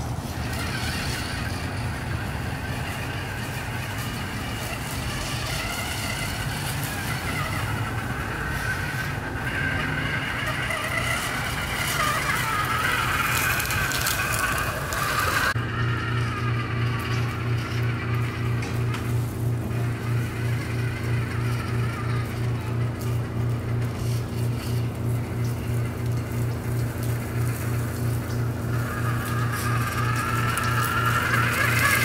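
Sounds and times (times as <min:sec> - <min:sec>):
electric motor and gears whining: 0:00.0 - 0:32.0.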